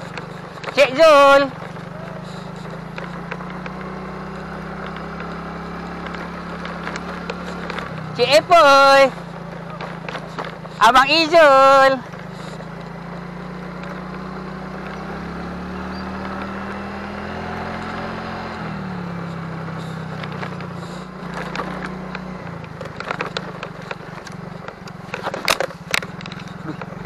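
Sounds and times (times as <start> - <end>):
motor scooter engine running: 0.0 - 27.0
rattles and knocks on dirt track: 0.0 - 27.0.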